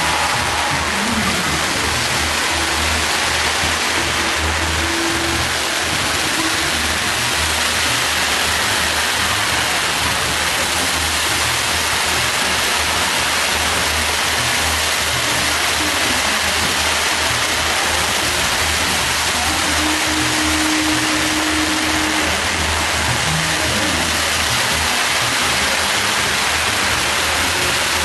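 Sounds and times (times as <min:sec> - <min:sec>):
fireworks sparks hissing: 0:00.0 - 0:28.0.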